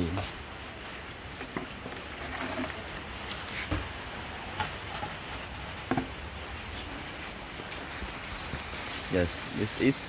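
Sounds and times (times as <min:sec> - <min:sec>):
low steady background noise: 0:00.0 - 0:10.0.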